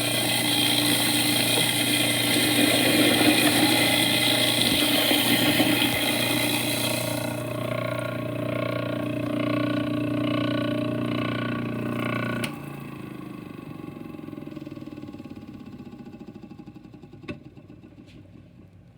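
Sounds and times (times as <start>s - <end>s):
garbage disposal motor humming: 0.0s - 15.9s.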